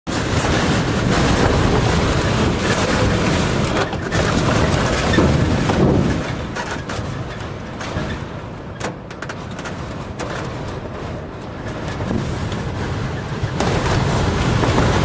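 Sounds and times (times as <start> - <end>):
wind gusts buffeting microphone: 0.1 - 15.0.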